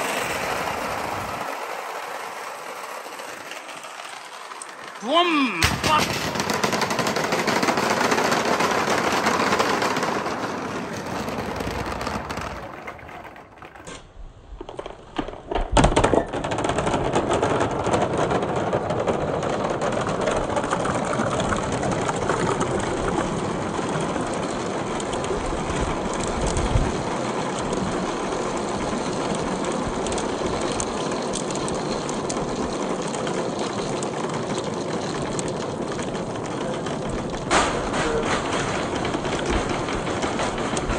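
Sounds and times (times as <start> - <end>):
marbles rattling down a chute: 0.0 - 13.9, 15.9 - 40.9.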